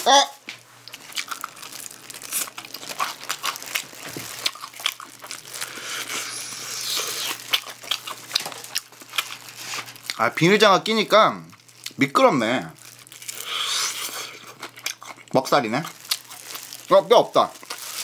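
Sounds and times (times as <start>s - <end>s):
plastic gloves crinkling: 0.4s - 18.0s
chewing crispy fried chicken: 0.8s - 10.7s, 11.4s - 18.0s.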